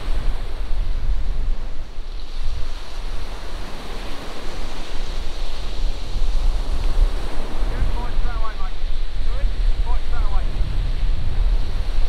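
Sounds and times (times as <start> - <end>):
sea waves breaking on shore: 0.0 - 12.0
wind on microphone: 0.0 - 12.0.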